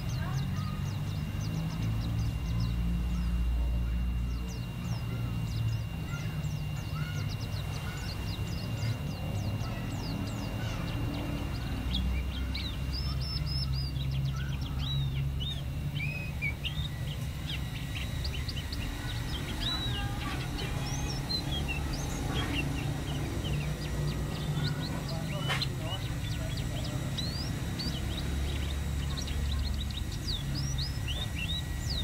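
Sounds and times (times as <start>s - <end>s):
bird singing high chirps: 0.0s - 32.0s.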